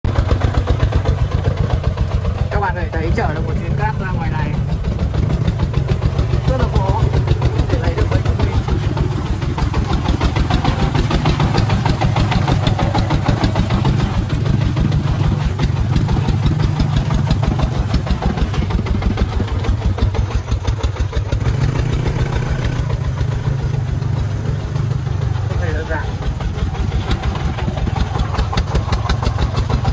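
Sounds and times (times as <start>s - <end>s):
diesel engine chugging: 0.0s - 29.9s.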